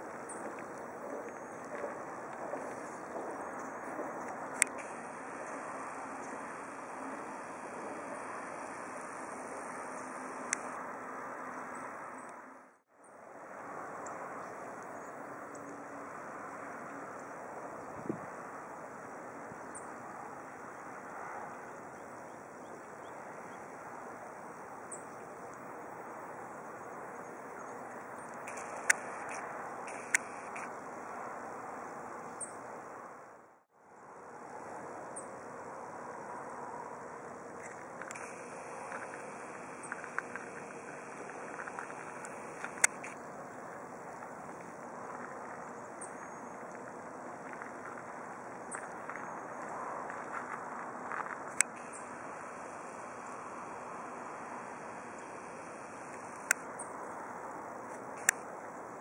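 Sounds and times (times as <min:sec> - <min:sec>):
outdoor background noise: 0:00.0 - 0:59.0.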